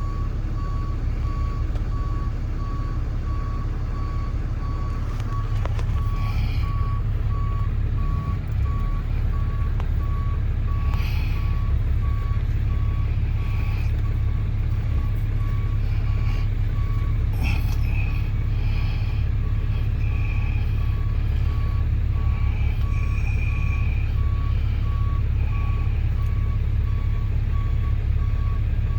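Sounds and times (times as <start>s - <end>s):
truck engine running: 0.0s - 28.9s
truck reversing alarm beeping: 0.0s - 28.9s.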